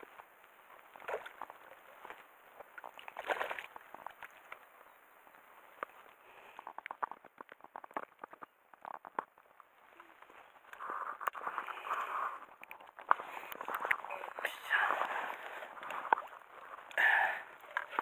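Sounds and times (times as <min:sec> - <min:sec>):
small clicks and rustles: 0:00.0 - 0:18.0.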